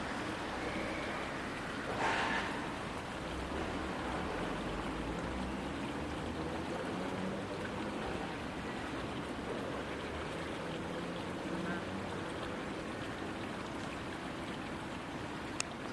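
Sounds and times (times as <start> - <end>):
flowing river water: 0.0 - 15.9.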